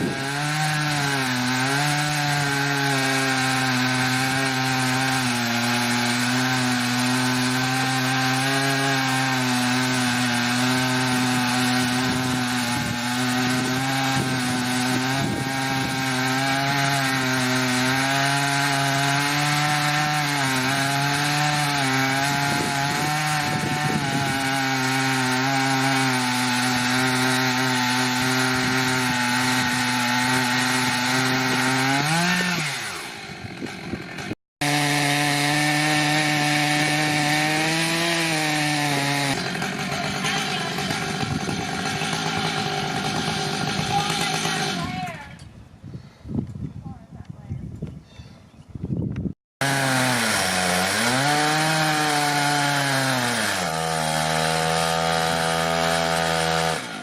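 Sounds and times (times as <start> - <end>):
chainsaw cutting log: 0.0 - 45.4, 49.2 - 57.0.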